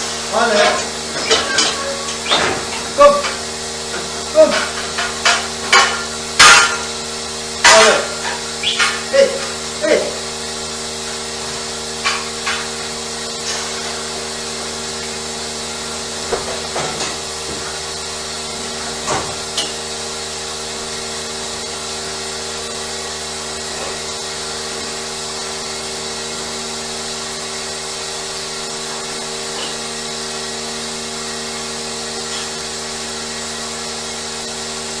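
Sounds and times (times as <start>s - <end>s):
mechanical hum with hiss: 0.0s - 35.0s.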